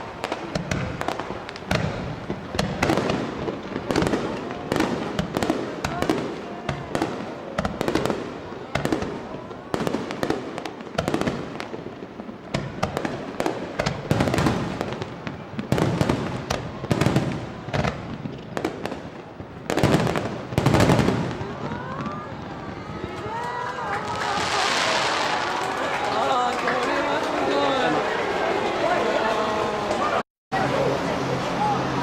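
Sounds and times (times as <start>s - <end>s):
fireworks bursting: 0.0s - 26.3s.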